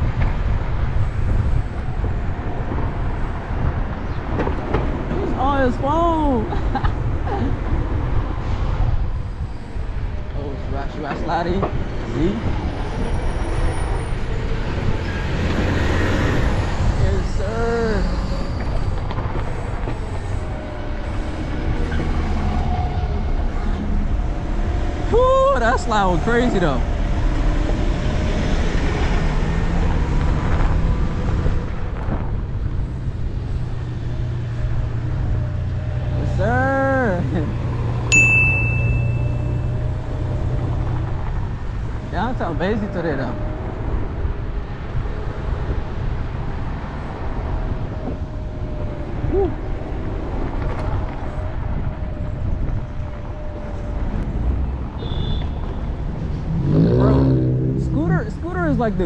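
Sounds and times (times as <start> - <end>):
wind rumble on microphone: 0.0 - 38.2, 39.6 - 59.0
scooter road noise: 0.0 - 59.0.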